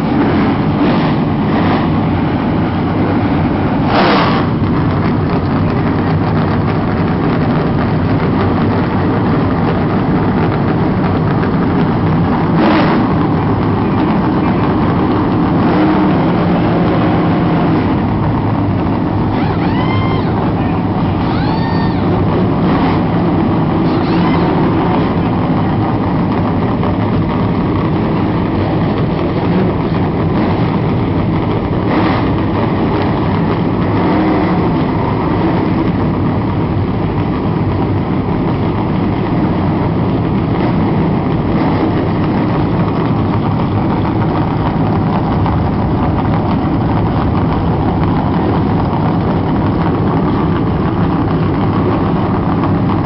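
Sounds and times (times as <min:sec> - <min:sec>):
many car engines idling: 0:00.0 - 0:53.0.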